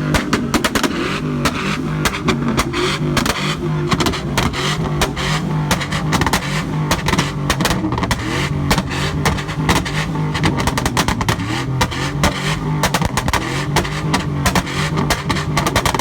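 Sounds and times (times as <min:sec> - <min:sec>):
truck engine running: 0:00.0 - 0:16.0
truck exhaust cracking and popping: 0:00.0 - 0:16.0.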